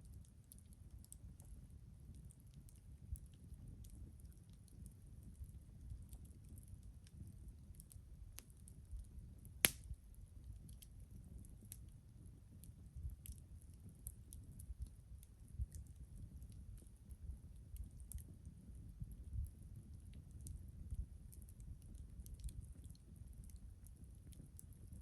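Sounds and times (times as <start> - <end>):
campfire crackling and popping: 2.2 - 25.0.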